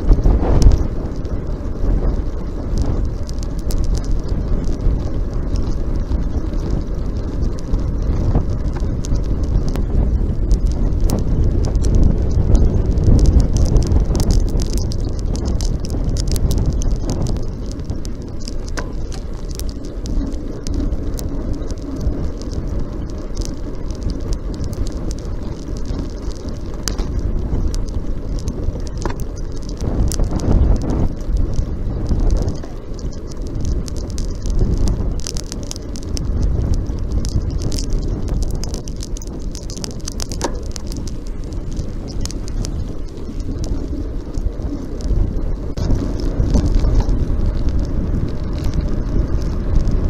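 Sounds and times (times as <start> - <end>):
bike clicks and rattles: 0.0 - 50.0
tyre noise: 0.0 - 50.0
wind buffeting microphone: 0.0 - 50.0.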